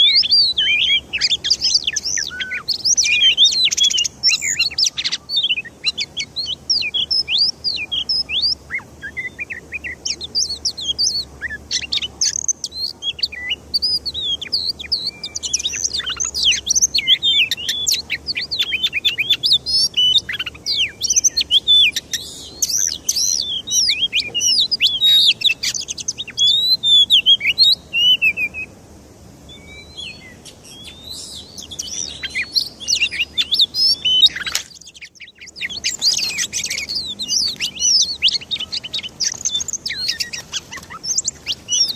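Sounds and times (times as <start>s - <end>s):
songbirds chirping and whistling: 0.0s - 41.9s.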